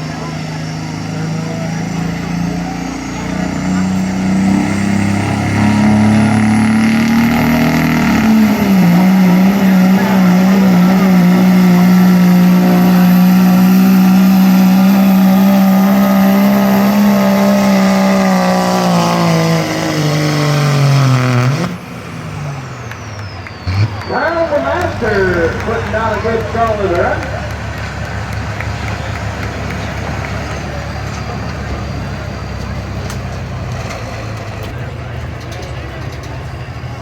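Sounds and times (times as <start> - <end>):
engine at full throttle: 0.0 - 37.0.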